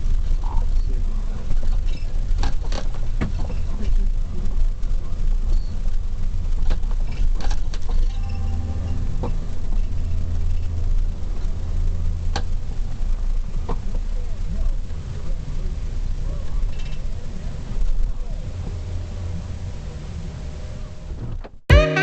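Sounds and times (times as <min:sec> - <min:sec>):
vehicle rumble from inside: 0:00.0 - 0:21.6.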